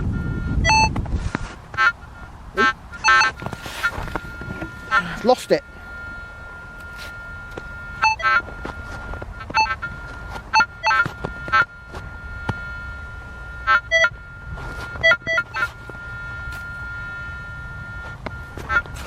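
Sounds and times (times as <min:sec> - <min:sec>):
metal detector steady high tone: 0:00.0 - 0:19.0
metal detector short beeps: 0:00.1 - 0:01.0, 0:01.8 - 0:19.0.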